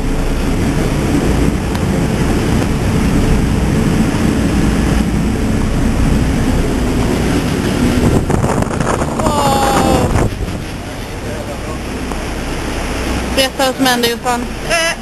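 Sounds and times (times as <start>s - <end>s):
wind buffeting microphone: 0.0s - 14.6s
boat engine drone: 0.0s - 15.0s
churning wake water: 0.0s - 15.0s.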